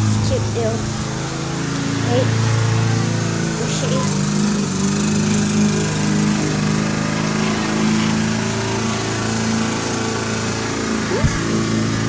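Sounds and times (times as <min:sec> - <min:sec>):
small engine droning: 0:00.0 - 0:12.0.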